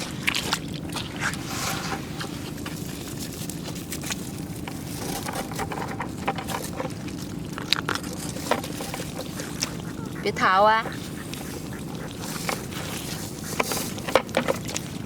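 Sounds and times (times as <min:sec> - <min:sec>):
low background rumble: 0:00.0 - 0:15.0
crab shell scraping on rocks: 0:01.2 - 0:15.0.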